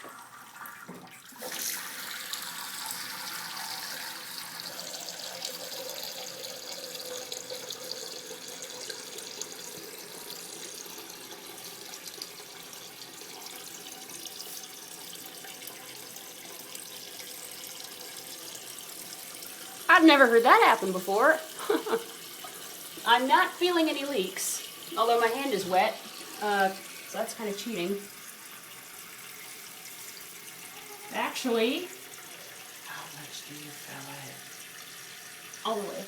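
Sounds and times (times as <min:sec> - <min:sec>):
water filling toilet tank: 0:00.0 - 0:36.0.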